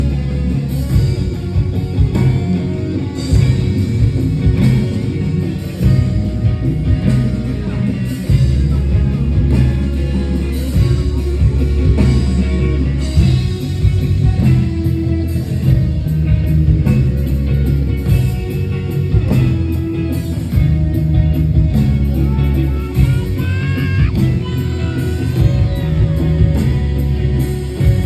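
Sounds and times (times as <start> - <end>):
heavy bass line: 0.0 - 28.0
live rock music with guitar: 0.0 - 28.0.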